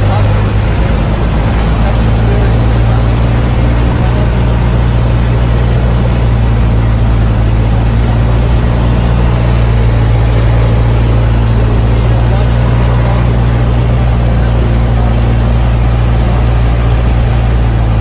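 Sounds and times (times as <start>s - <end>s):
airplane engine drone in cockpit: 0.0s - 18.0s.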